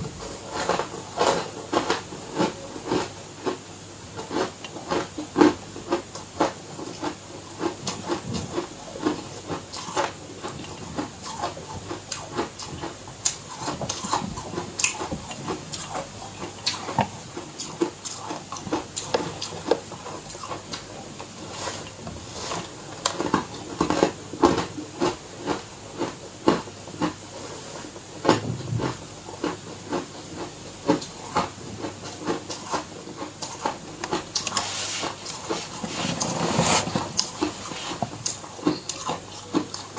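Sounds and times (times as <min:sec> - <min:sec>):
ice crunching while chewed: 0:04.2 - 0:27.2, 0:28.2 - 0:39.9.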